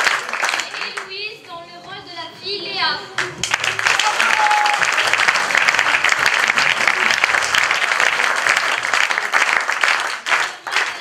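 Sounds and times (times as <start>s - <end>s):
audience applauding: 0.0s - 1.1s, 3.2s - 11.0s.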